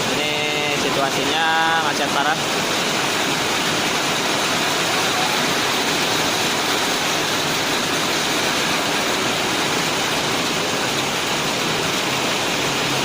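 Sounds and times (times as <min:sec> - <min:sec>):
heavy rain and hail falling: 0:00.0 - 0:13.0.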